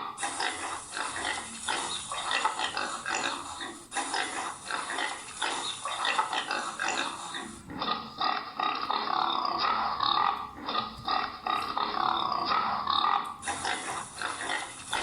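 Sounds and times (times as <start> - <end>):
pig grunting and oinking: 0.0 - 15.0.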